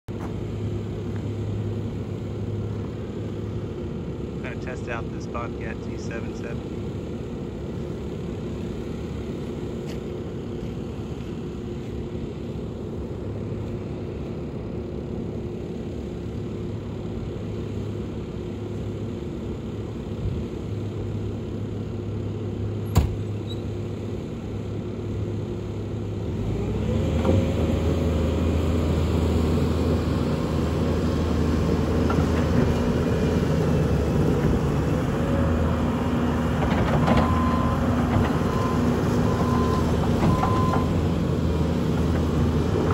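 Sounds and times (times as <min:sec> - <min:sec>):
diesel engine running and revving: 0:00.0 - 0:42.9.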